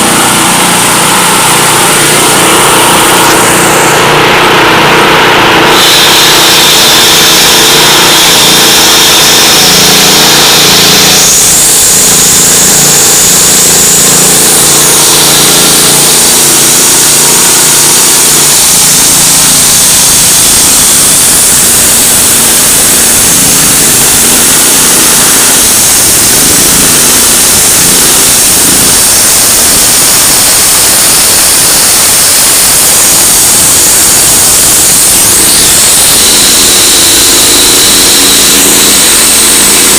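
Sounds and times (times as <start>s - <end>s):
construction machinery engine: 0.0s - 39.9s
loud mechanical din: 0.0s - 39.9s.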